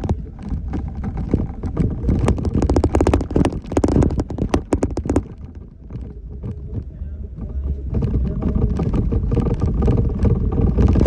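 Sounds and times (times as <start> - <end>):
knocks and clattering rattles: 0.0 - 11.0
vehicle engine rumble: 0.0 - 11.0.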